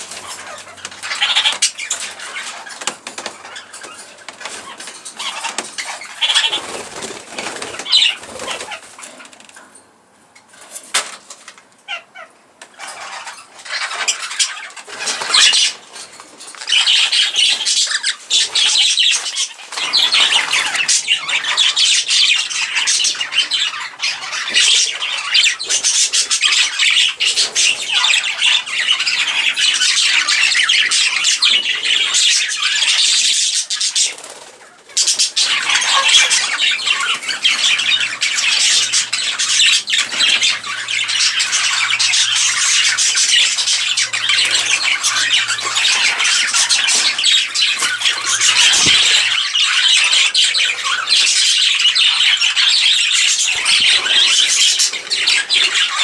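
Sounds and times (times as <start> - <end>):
parrots chattering: 0.0 - 56.0.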